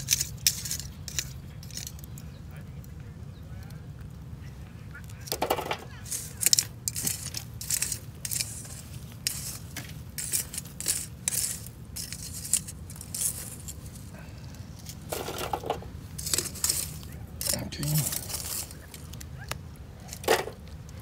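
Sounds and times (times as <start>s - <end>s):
metal tongs scraping through ash: 0.0s - 2.2s, 5.1s - 21.0s.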